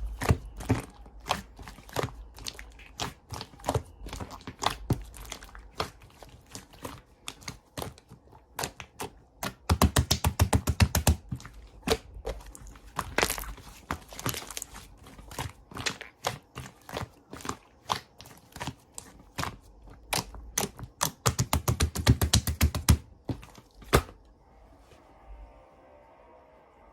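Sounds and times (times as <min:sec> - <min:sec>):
slime clicking and popping: 0:00.0 - 0:23.0.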